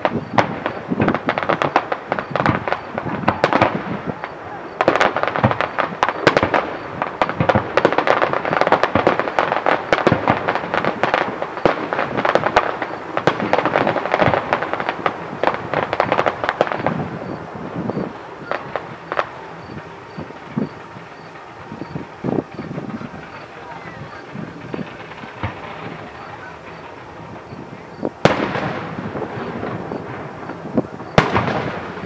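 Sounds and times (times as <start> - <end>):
fireworks cracking and banging: 0.0 - 32.0.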